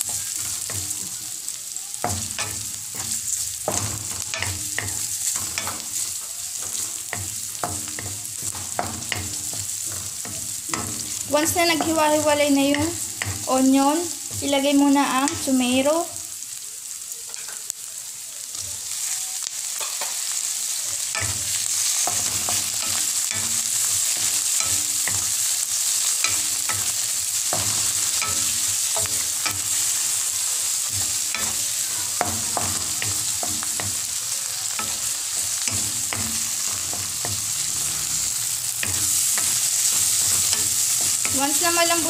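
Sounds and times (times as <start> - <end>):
food sizzling in hot oil: 0.0 - 42.0.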